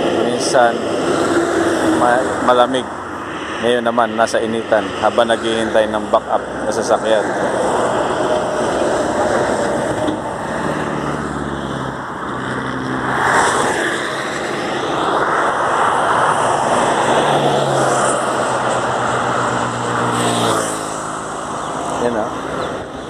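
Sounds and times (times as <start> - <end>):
heavy truck engine hum: 0.0 - 23.0
highway traffic passing: 0.0 - 23.0.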